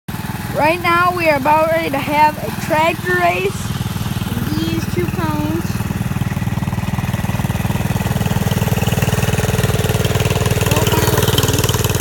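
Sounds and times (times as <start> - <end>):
garden tractor engine idling: 0.1 - 12.0.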